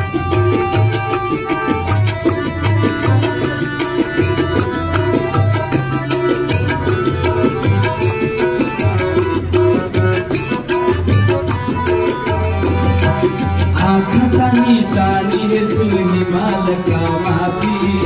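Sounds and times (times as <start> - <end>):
held melodic line: 0.0 - 18.0
tabla rhythm: 0.0 - 18.0.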